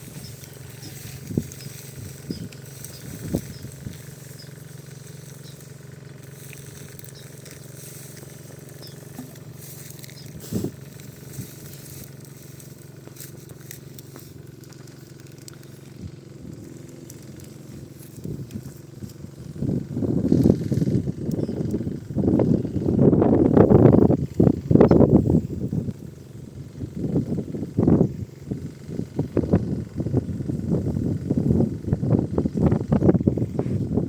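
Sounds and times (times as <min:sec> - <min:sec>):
small engine running: 0:00.0 - 0:34.0.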